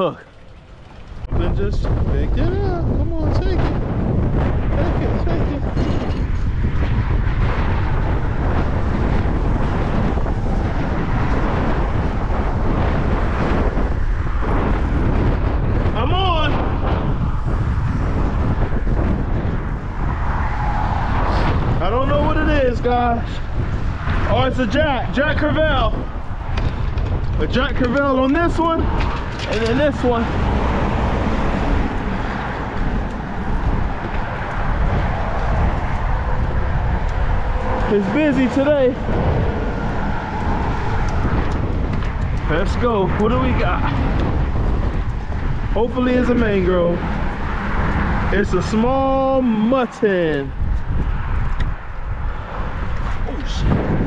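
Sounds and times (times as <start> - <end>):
highway traffic noise: 0.0 - 54.0
wind buffeting microphone: 0.0 - 54.0.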